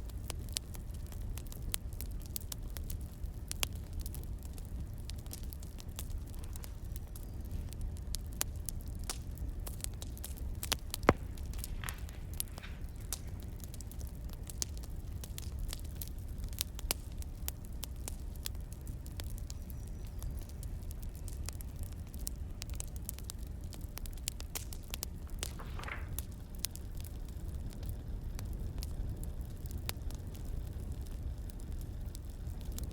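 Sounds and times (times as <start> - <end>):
firewood crackling and popping: 0.0 - 32.9.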